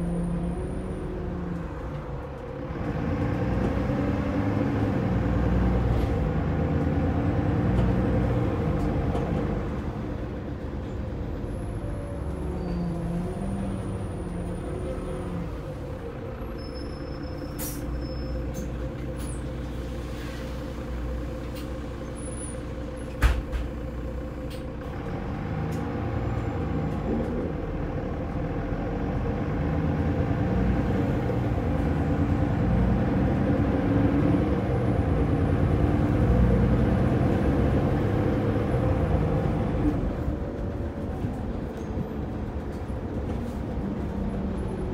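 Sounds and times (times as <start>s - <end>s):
bus diesel engine: 0.0s - 44.9s.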